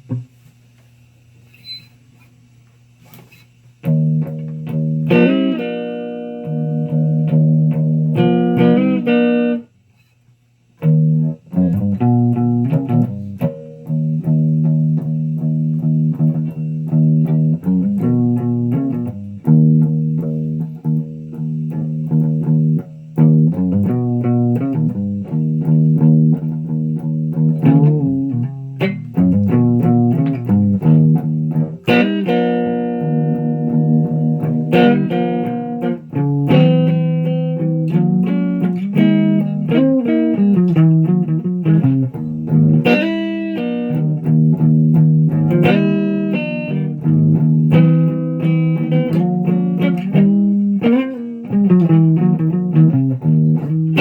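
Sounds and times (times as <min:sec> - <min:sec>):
electric guitar through amp: 0:03.3 - 0:09.7, 0:10.8 - 0:54.0.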